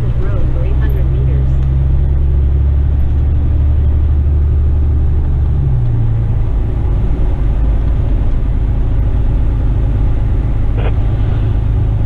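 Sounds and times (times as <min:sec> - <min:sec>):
road noise: 0:00.0 - 0:12.0
truck diesel engine running: 0:00.0 - 0:12.0.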